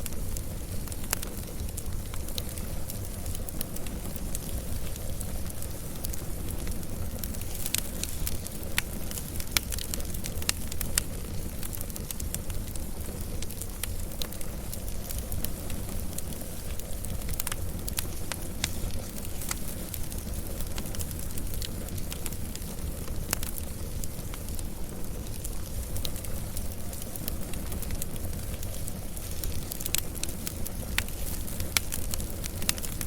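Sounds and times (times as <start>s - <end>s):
fire crackles and pops: 0.0s - 33.0s
fire low rumble: 0.0s - 33.0s.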